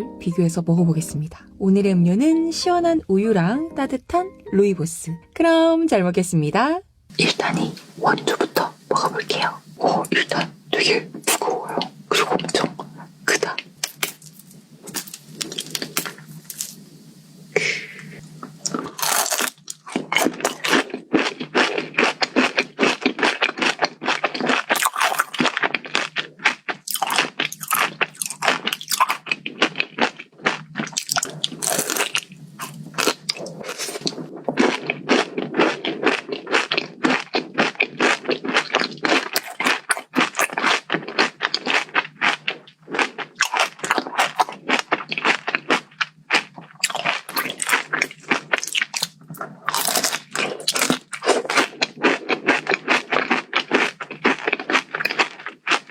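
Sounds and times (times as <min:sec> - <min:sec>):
crunching and chewing chocolate bar: 0:08.2 - 0:16.8, 0:18.4 - 0:55.9.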